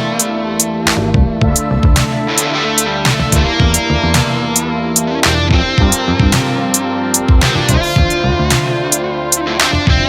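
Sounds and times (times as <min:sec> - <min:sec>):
instrumental music with guitar: 0:00.0 - 0:10.0.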